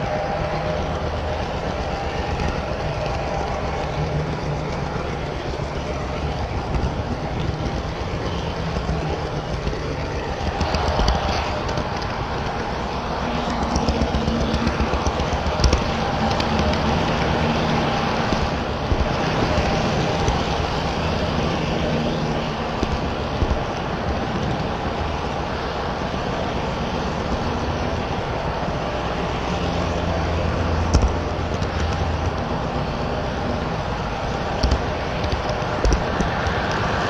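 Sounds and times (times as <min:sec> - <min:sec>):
low motor hum: 0:00.0 - 0:37.0
model train rumbling clatter: 0:00.0 - 0:37.0.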